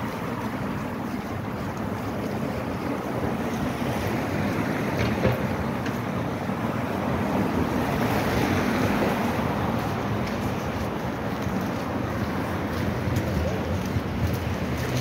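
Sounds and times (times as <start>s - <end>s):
traffic on wet road: 0.0s - 15.0s.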